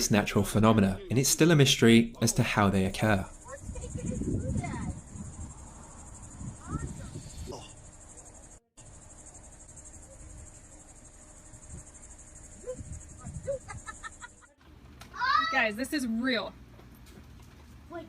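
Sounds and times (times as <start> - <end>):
insects chirping: 0.0 - 14.6.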